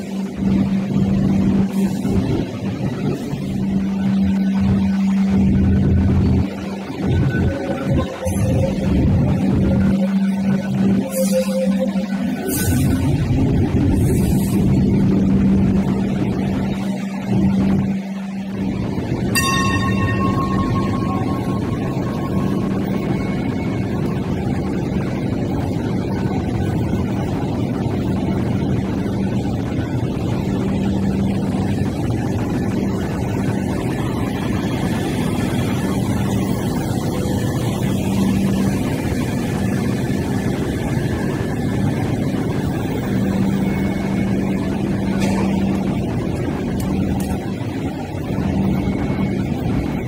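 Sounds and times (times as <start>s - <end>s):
light rail car rumbling past: 0.0s - 50.0s.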